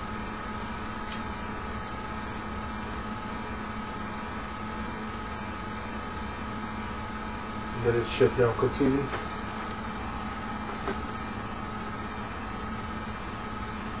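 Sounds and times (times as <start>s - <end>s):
room noise hum and hiss: 0.0s - 14.0s.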